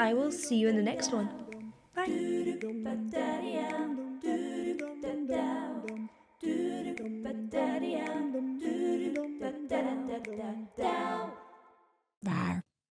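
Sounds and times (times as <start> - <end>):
wordless a cappella singing: 0.0 - 11.8.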